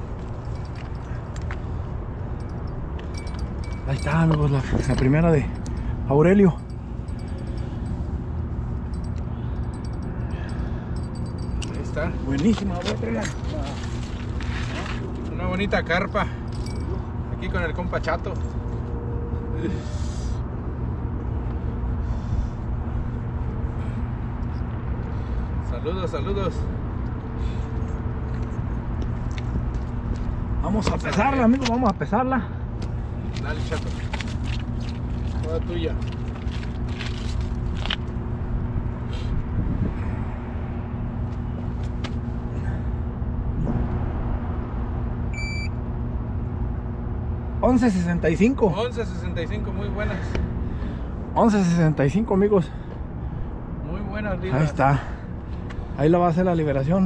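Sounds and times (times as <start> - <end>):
distant road traffic rumble: 0.0 - 57.0.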